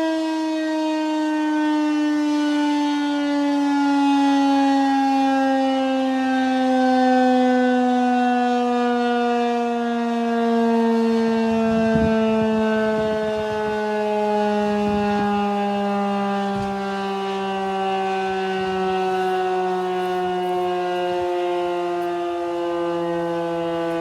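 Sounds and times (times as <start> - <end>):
warning siren steady tone: 0.0 - 24.0.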